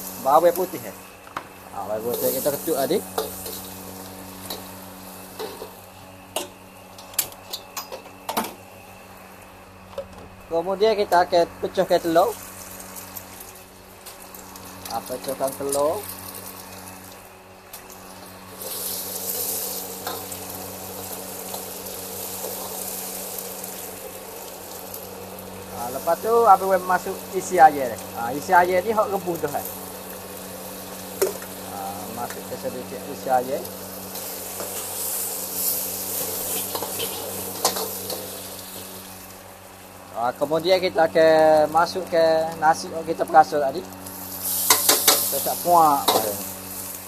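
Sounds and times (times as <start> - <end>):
egg sizzling in hot oil: 0.0 - 9.6, 11.8 - 41.1, 41.8 - 47.0.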